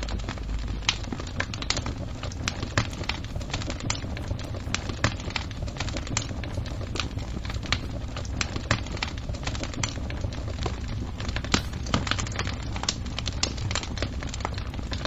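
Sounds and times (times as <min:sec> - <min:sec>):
steady low rumble: 0:00.0 - 0:15.0
wood fire crackling: 0:00.0 - 0:15.0.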